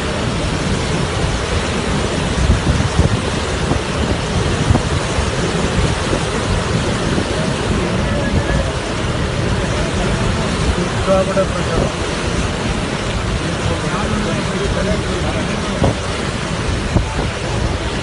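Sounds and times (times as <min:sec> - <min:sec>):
floodwater rushing from dam: 0:00.0 - 0:18.0.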